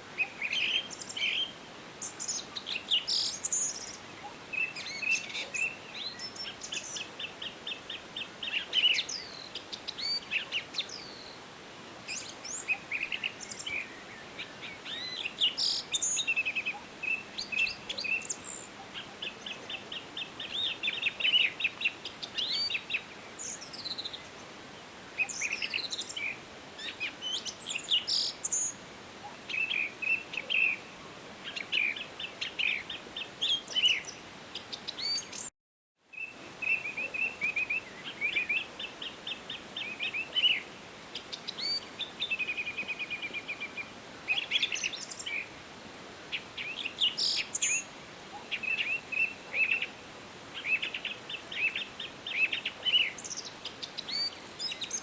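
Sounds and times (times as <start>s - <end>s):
songbirds singing: 0.0s - 35.5s, 36.1s - 55.0s
faint forest background hiss: 0.0s - 55.0s.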